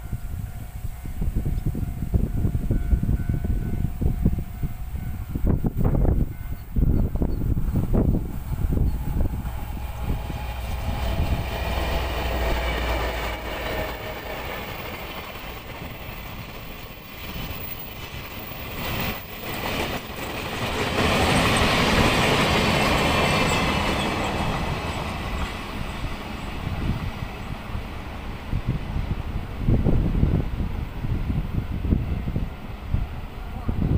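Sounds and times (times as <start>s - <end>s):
locomotive engine rumble: 0.0s - 33.9s.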